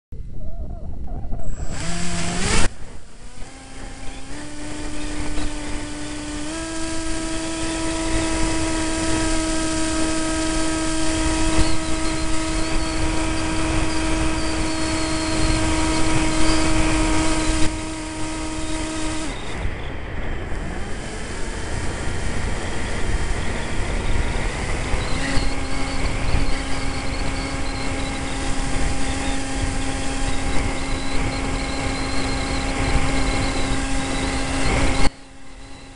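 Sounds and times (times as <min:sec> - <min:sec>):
wind buffeting microphone: 0:00.2 - 0:35.9
electric motor whining: 0:00.8 - 0:35.9.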